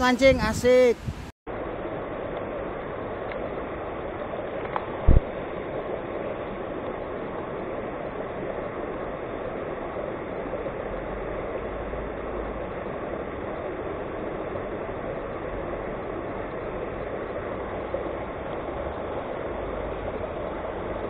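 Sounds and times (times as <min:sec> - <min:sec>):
water rushing over a weir: 0:00.7 - 0:21.0.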